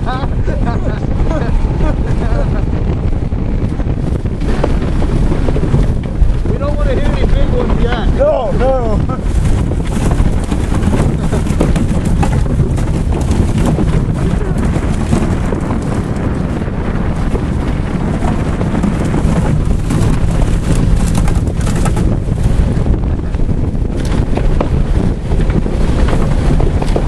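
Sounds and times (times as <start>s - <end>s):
car engine rumble: 0.0s - 27.0s
wind buffeting microphone: 0.0s - 27.0s
car jolts and rattles: 3.9s - 27.0s.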